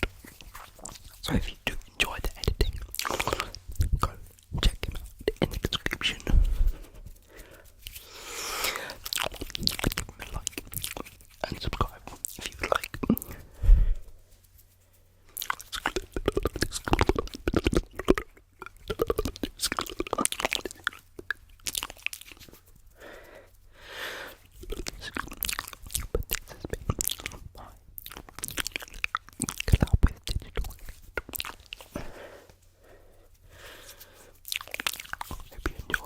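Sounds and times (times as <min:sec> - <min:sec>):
mouth sounds: 0:00.0 - 0:14.1, 0:15.4 - 0:22.6, 0:24.6 - 0:32.4.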